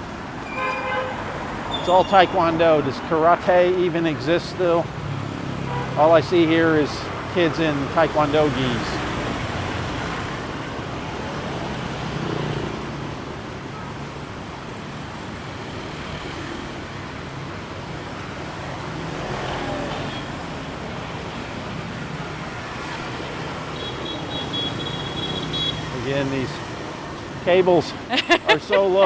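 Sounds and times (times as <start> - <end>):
road noise: 0.0 - 29.0
vehicle engines passing: 0.0 - 29.0.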